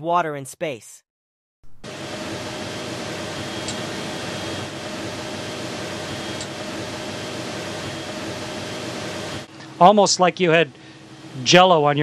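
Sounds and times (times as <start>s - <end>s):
ventilation fans humming: 1.9s - 12.0s.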